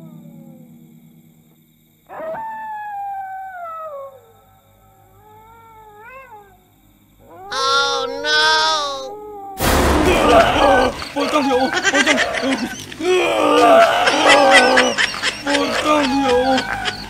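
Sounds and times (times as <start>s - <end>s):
dog howling: 2.1s - 17.0s.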